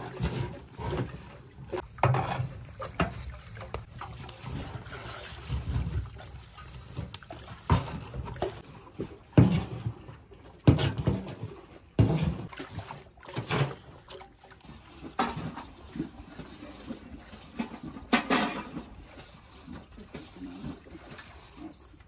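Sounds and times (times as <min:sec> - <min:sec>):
liquid sloshing in butter churn: 0:00.0 - 0:22.0.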